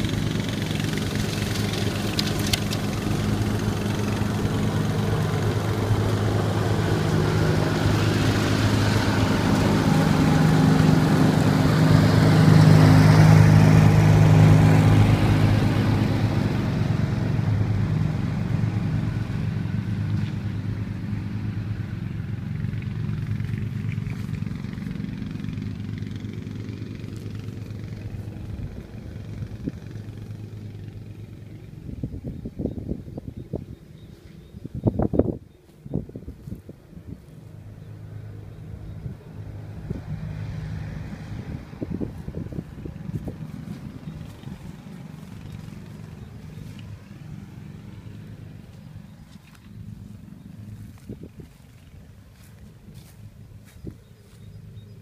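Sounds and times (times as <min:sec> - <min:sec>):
ride-on lawn mower engine: 0:00.0 - 0:55.0.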